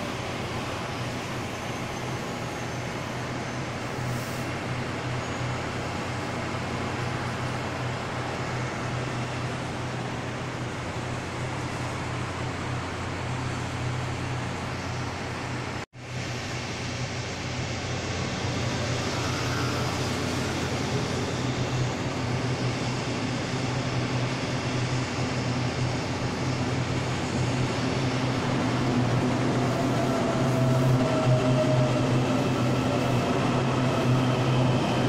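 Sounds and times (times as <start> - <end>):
electric train arriving: 0.0 - 35.0
standing electric train hum: 0.0 - 35.0.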